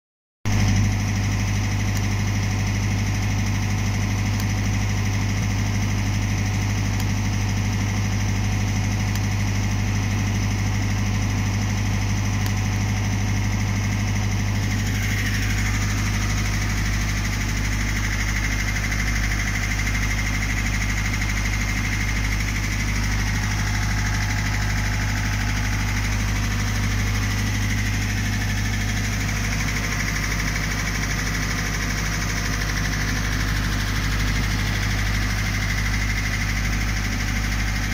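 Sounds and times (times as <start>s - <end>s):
generator engine humming: 0.5s - 37.9s.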